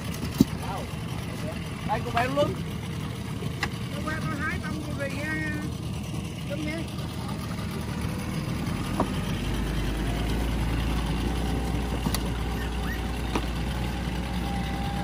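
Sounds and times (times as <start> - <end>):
outboard motors droning: 0.0 - 15.0.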